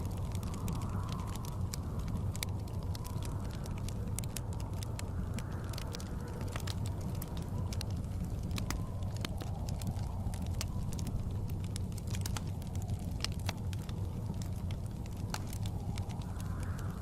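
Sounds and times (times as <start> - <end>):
blizzard wind rumble: 0.0 - 17.0
wood fire crackling and popping: 0.0 - 17.0.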